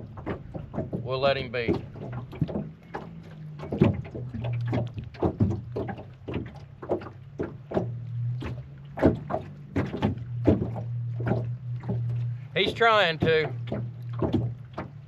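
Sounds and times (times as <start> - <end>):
steady low hum: 0.0 - 15.0
waves slapping boat hull: 0.0 - 15.0.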